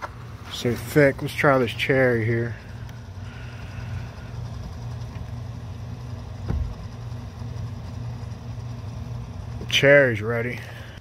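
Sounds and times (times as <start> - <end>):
dehumidifier humming: 0.0 - 11.0.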